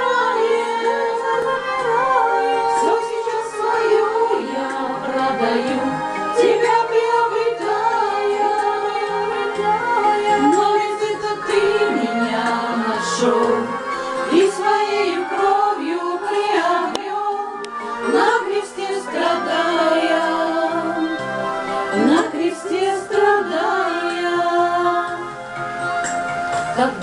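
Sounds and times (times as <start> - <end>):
woman singing: 0.0 - 25.4, 26.6 - 27.0
instrumental backing music: 0.0 - 27.0.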